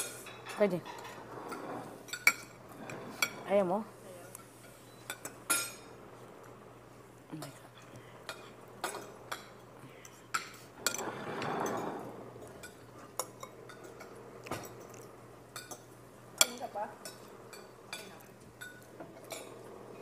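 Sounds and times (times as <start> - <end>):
cutlery clinking on plates: 0.0 - 3.4, 4.3 - 5.9, 7.4 - 19.8.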